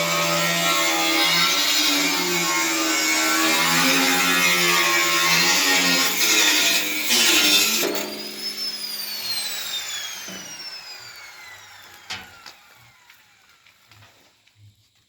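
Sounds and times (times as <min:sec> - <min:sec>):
power tool winding down: 0:00.0 - 0:14.2.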